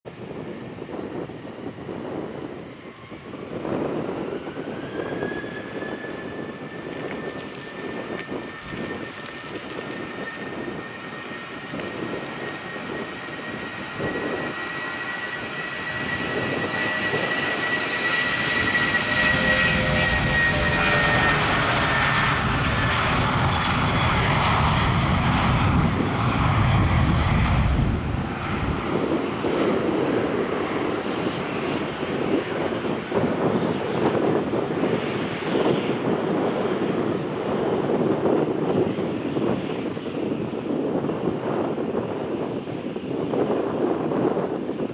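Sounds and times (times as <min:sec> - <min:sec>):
jet engines at takeoff thrust: 0:00.1 - 0:44.9.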